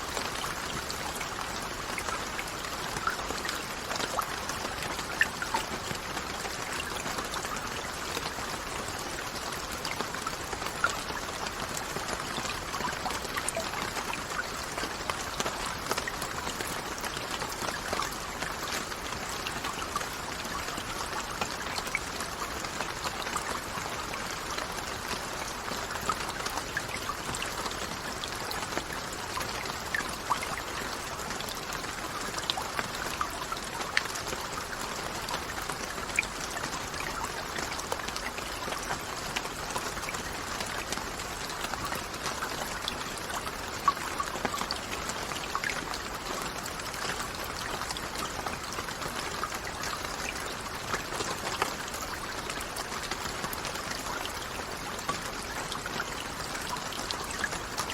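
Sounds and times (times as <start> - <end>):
rain pattering: 0.0 - 57.9.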